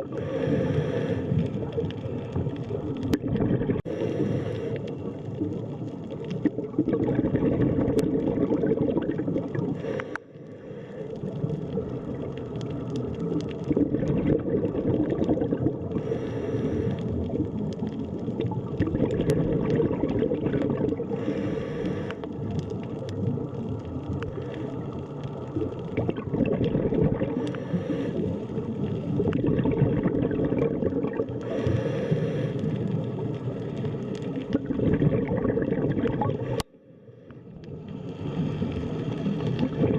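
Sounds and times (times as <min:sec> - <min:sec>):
underwater rumbling water wash: 0:00.0 - 0:36.6, 0:37.4 - 0:39.9.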